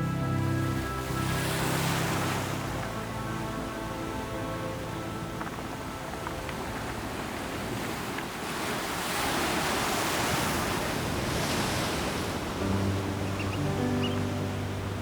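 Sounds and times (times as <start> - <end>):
sea waves breaking: 0.0 - 15.0.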